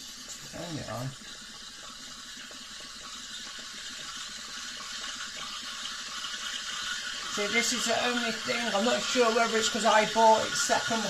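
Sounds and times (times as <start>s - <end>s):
espresso steam wand hissing: 0.0s - 11.0s.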